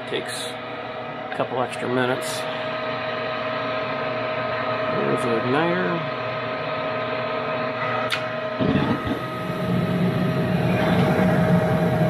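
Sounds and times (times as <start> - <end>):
furnace motors humming: 0.0 - 12.0
gas burners rumbling rush: 1.3 - 12.0.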